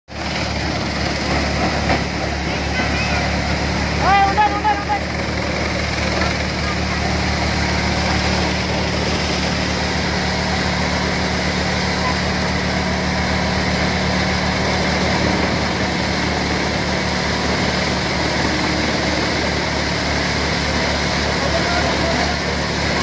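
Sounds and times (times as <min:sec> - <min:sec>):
engine humming: 0:00.1 - 0:23.0
threshing machine whirring: 0:00.1 - 0:23.0.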